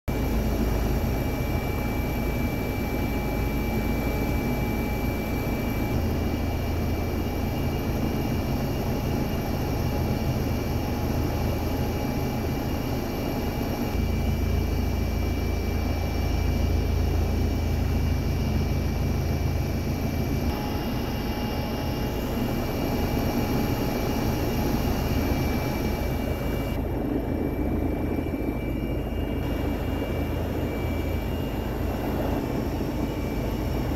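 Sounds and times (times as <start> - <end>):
helicopter engine and rotor drone: 0.1 - 33.9.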